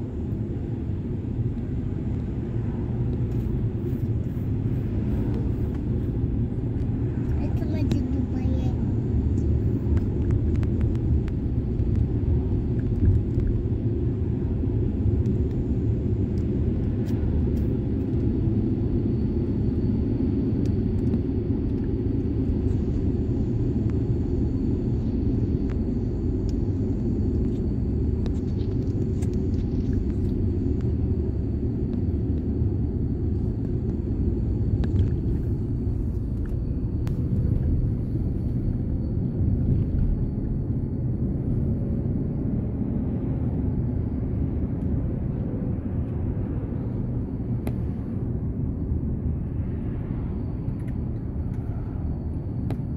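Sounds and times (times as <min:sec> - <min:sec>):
car cabin road rumble: 0:00.0 - 0:52.9.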